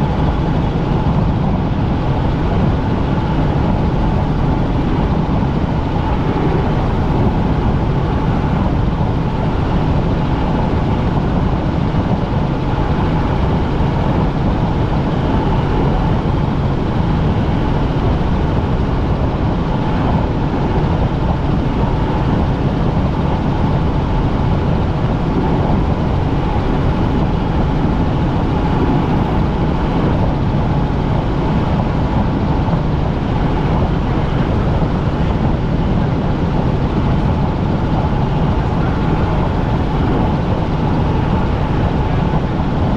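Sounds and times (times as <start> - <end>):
helicopter engine and rotor noise: 0.0 - 42.9.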